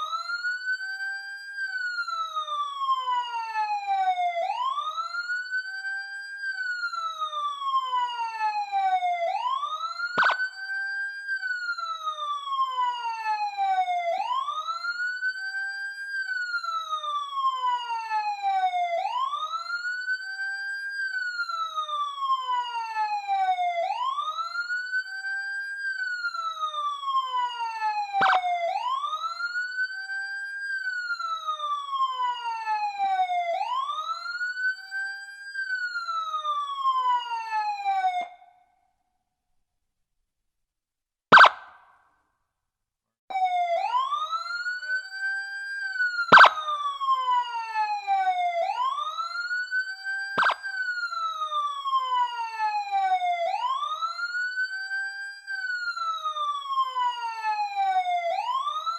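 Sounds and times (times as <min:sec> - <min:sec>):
police siren wailing: 0:00.0 - 0:38.8, 0:41.3 - 0:42.0, 0:43.3 - 0:58.9.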